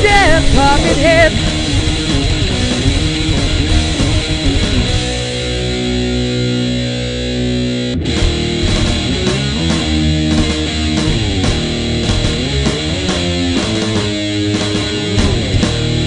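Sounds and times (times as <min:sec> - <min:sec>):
heavy metal music: 0:00.0 - 0:16.0.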